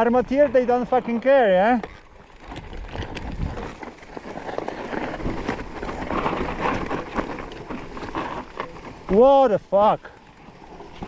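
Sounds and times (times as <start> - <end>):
bike rattling: 0.0 - 11.0
tyres crunching over dirt: 0.0 - 11.0.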